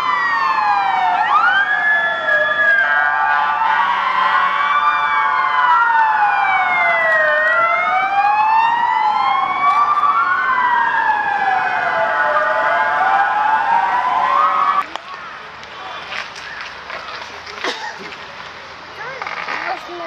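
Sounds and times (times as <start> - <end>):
fire engine sirens wailing: 0.0 - 17.6.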